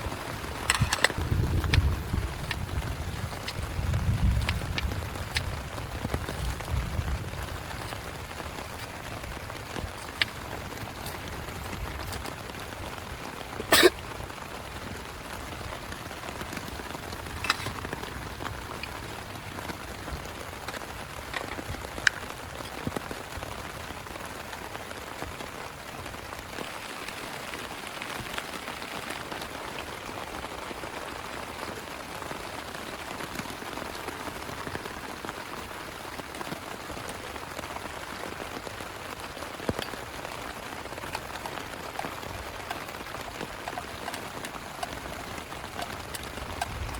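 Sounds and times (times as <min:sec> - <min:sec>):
rain on a plastic tarp: 0:00.0 - 0:46.9.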